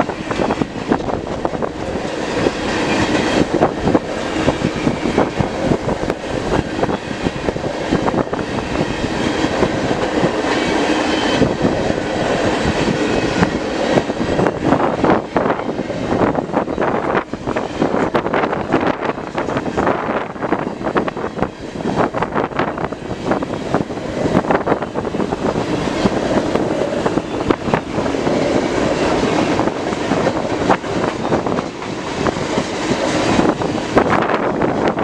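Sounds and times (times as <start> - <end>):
train wheels clicking over rail joints: 0.0 - 35.0
wind buffeting microphone: 0.0 - 35.0.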